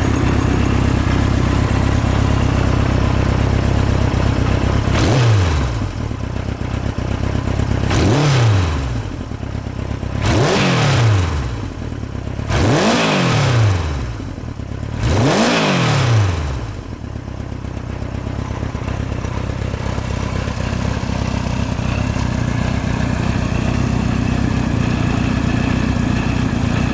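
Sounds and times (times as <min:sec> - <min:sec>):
motorcycle engine revving and idling: 0:00.0 - 0:26.9.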